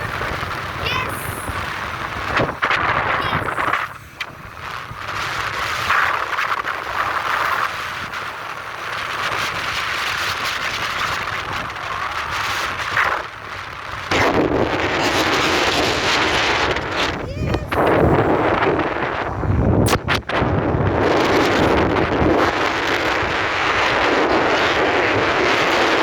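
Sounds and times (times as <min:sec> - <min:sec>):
road and vehicle noise: 0:00.0 - 0:26.0
wind buffeting microphone: 0:00.0 - 0:26.0.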